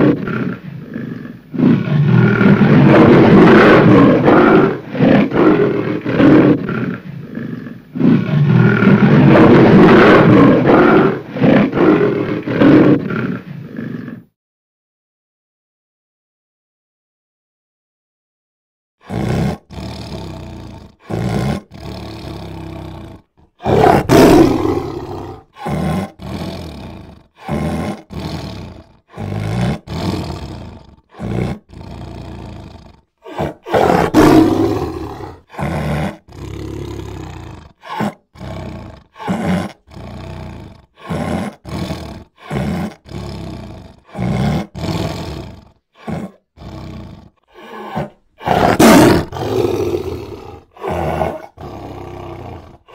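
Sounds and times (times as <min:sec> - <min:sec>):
big cats roaring: 0:00.0 - 0:14.3, 0:19.0 - 0:52.9.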